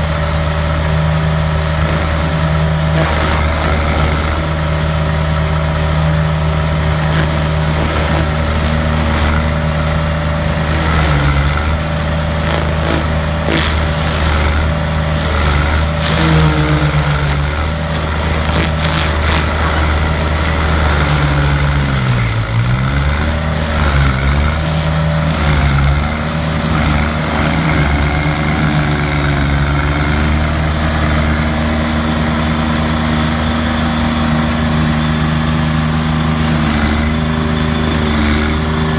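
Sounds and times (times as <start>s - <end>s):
stump grinder engine running: 0.0s - 38.9s.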